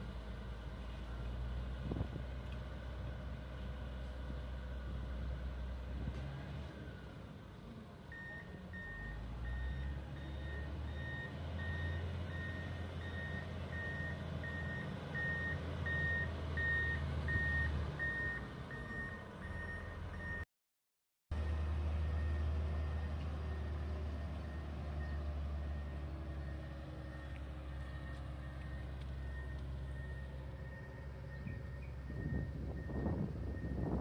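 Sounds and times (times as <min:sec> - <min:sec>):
diesel engine droning: 0:00.0 - 0:20.5, 0:21.3 - 0:34.0.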